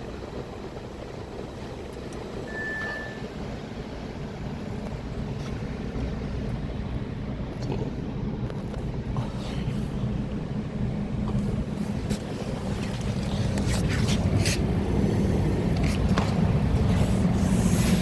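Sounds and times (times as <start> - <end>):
car engine humming: 0.0 - 18.0.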